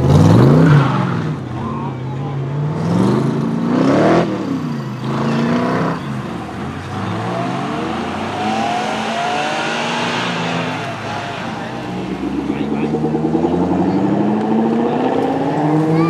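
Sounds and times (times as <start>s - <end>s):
car engine revving hard: 0.0s - 1.5s, 2.4s - 16.0s
car engine pulling away: 0.0s - 16.0s.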